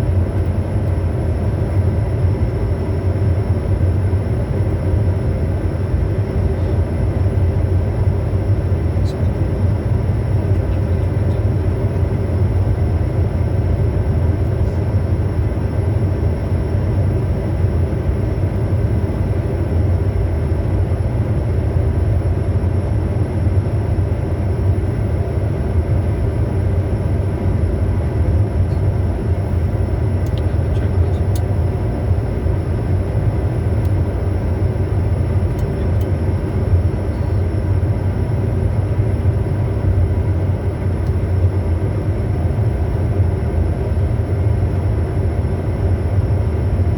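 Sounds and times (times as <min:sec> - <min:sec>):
faint steady whining tones: 0:00.0 - 0:46.9
jet airflow and engine rumble: 0:00.0 - 0:46.9.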